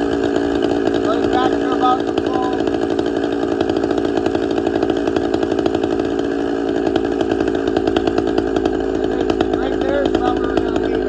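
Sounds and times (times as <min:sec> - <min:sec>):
two-stroke chainsaw engine running: 0:00.0 - 0:11.0.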